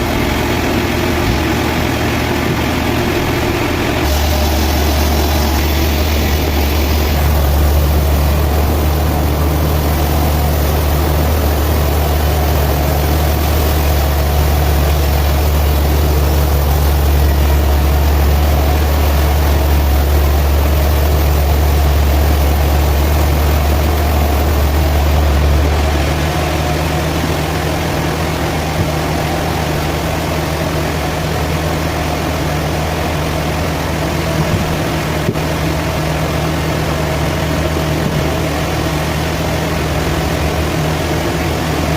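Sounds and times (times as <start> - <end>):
sawmill machinery droning: 0.0 - 41.9.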